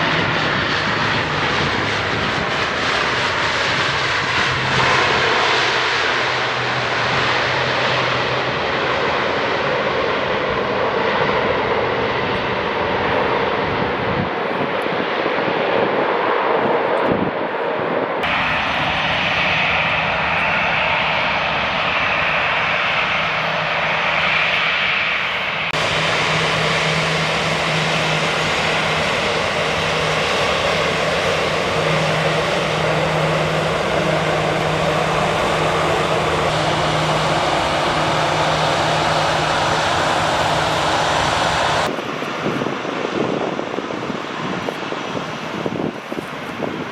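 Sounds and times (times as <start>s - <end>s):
airliner engines droning: 0.0s - 46.9s.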